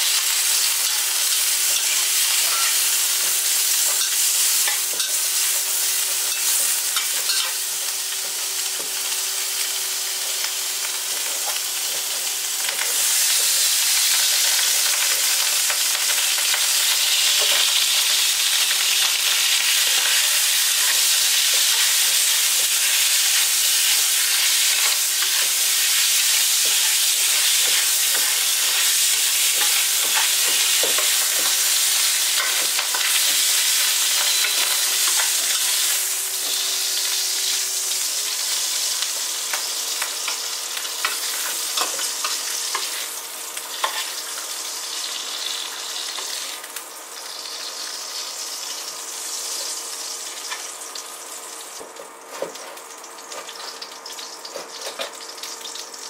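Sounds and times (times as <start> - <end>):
food sizzling in a wok: 0.0 - 56.0.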